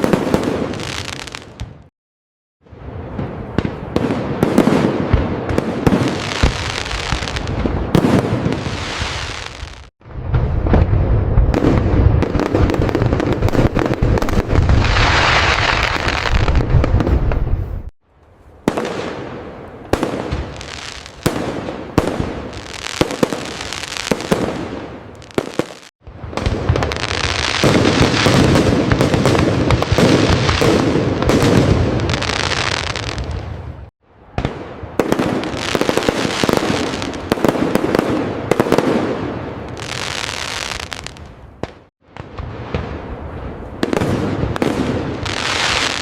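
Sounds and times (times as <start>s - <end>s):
firework bangs: 2.8s - 17.9s, 18.6s - 46.0s
firework crackling: 3.0s - 17.9s, 18.7s - 46.0s.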